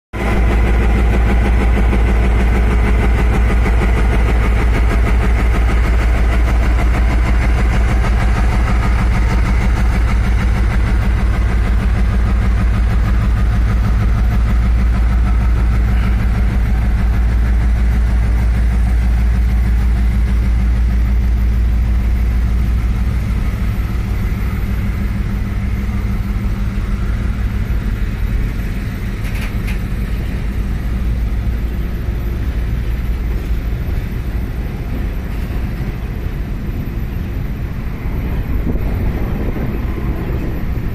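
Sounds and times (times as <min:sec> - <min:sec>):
diesel locomotive engine: 0:00.1 - 0:40.9
freight wagons rolling on rails: 0:00.2 - 0:40.9.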